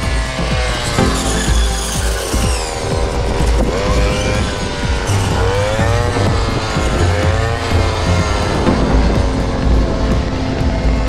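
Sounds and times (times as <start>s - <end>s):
background music: 0.0s - 11.0s
engine running: 0.0s - 11.0s.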